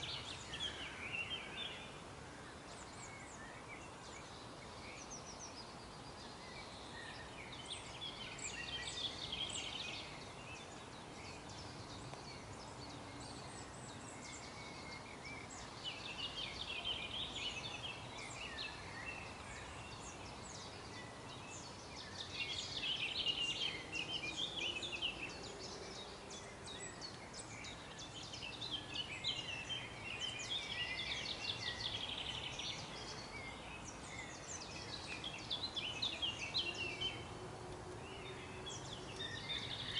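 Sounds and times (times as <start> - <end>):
faint background noise: 0.0 - 39.9
songbird chirping and twittering: 0.0 - 39.9.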